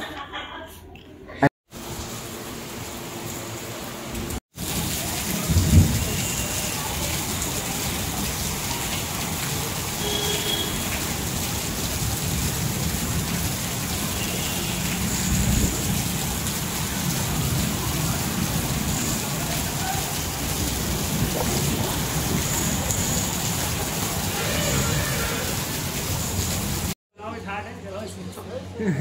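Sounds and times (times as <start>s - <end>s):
heavy rain falling: 1.7s - 27.0s.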